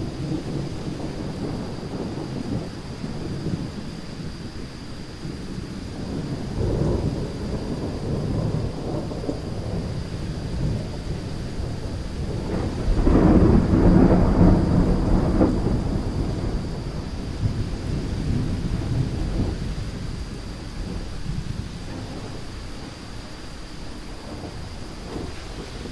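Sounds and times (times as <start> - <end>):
rain falling: 0.0 - 25.9
rolling thunder: 0.0 - 25.9.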